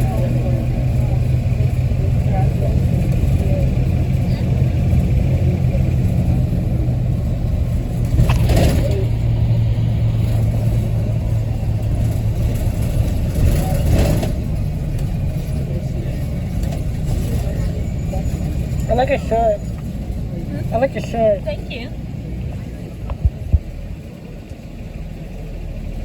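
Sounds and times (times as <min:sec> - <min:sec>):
bus engine and fan droning: 0:00.0 - 0:26.0.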